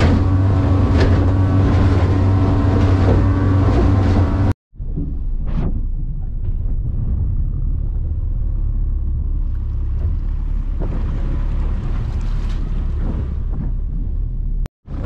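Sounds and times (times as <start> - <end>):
motorboat motor drone: 0.0 - 4.6, 6.8 - 15.0
water rushing past hull: 0.0 - 4.6, 5.2 - 15.0
wind on microphone: 0.0 - 15.0.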